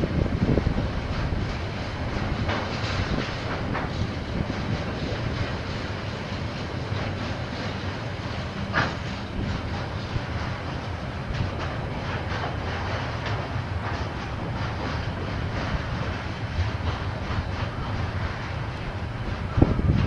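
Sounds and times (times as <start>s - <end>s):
train rolling past: 0.0s - 20.0s.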